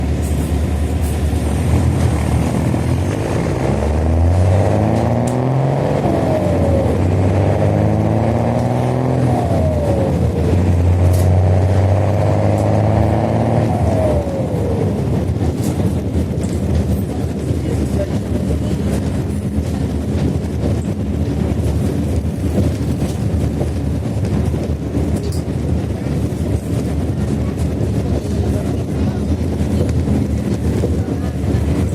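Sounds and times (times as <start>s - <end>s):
bus diesel engine accelerating: 0.0s - 31.9s.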